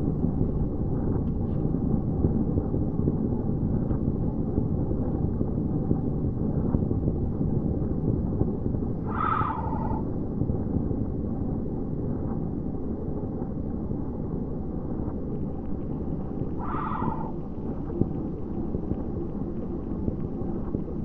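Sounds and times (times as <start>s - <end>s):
dense low rumble: 0.0s - 21.0s.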